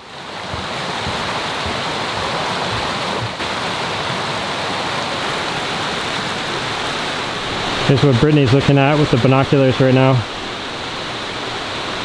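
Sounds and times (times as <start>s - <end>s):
creek babbling over stones: 0.0s - 12.0s.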